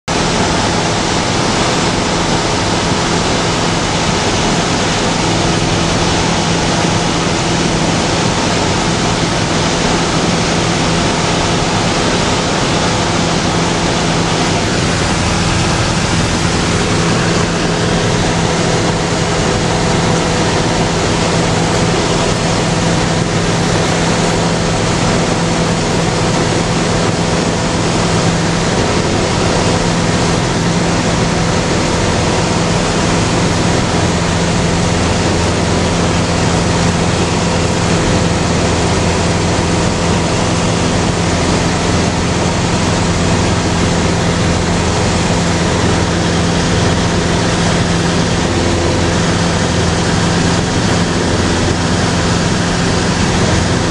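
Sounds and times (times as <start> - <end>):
aircraft engine and propeller drone: 0.0 - 53.9
rushing air: 0.1 - 53.9.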